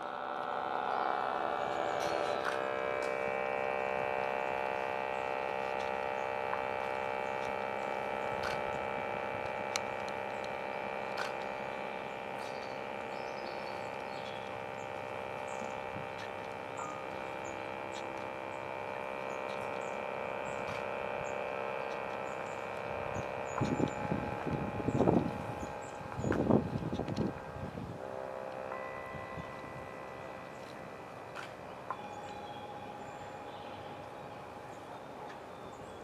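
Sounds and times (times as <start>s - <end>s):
steady drone of held tones: 0.0s - 36.0s.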